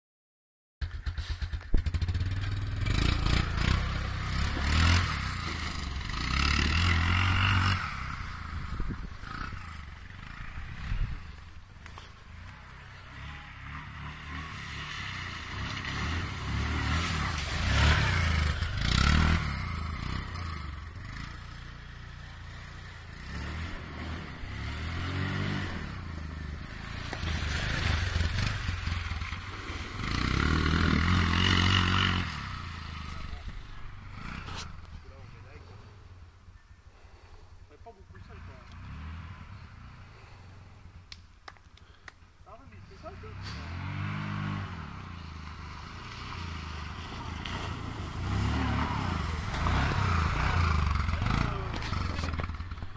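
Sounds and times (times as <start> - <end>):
quad engine revving: 0.8 - 36.0, 38.0 - 41.0, 42.5 - 52.9.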